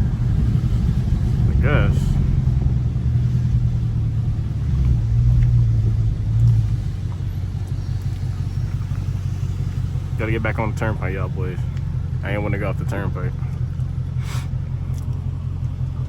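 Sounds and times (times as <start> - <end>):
car engine exhaust drone: 0.0 - 16.0.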